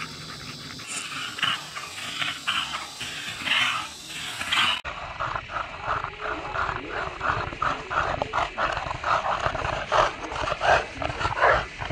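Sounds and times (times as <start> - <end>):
dogs panting: 0.0 - 11.9.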